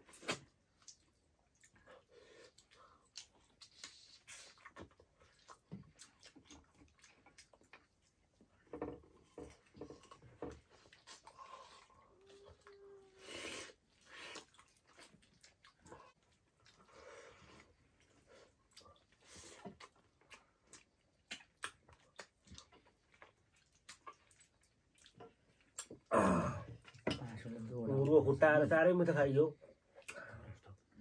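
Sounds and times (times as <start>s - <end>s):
person chewing with wet smacks: 0.0s - 26.1s, 26.8s - 28.1s, 29.7s - 31.0s.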